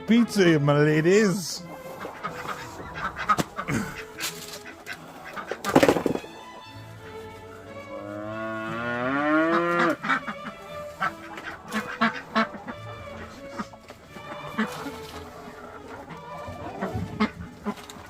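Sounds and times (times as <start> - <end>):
chicken calling: 1.2 - 6.7, 8.7 - 18.0.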